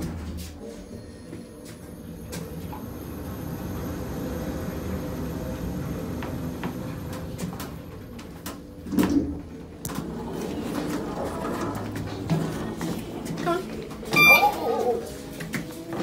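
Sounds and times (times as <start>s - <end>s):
lift car humming and rumbling: 1.1s - 14.6s.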